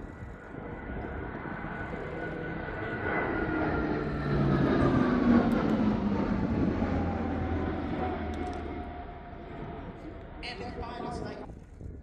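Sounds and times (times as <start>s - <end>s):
aircraft flying past: 0.0s - 11.6s.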